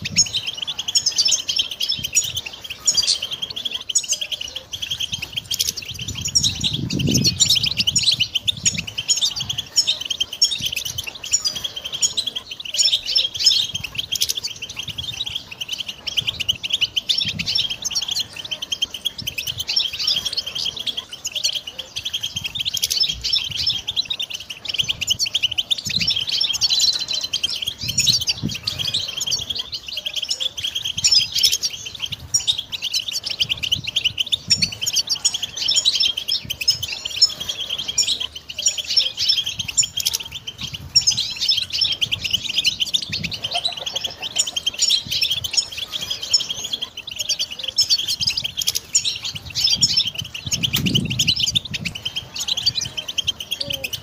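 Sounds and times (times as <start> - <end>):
bird twittering song: 0.0 - 54.0.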